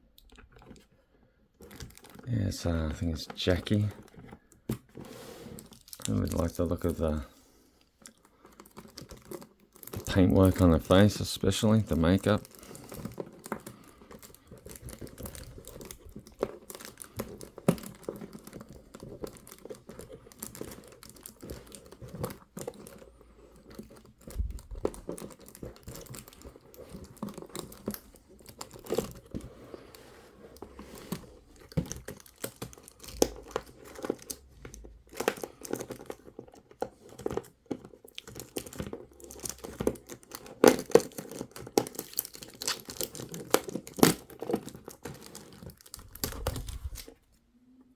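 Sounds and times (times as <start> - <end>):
packaging crinkling and tearing: 1.6 - 7.4, 8.0 - 47.3.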